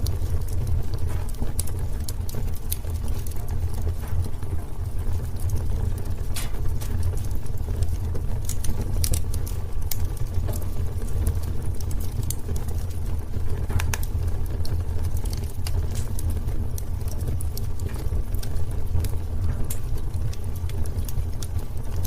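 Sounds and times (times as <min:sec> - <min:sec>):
fire crackles and pops: 0:00.0 - 0:22.0
wood fire rumbling: 0:00.0 - 0:22.0.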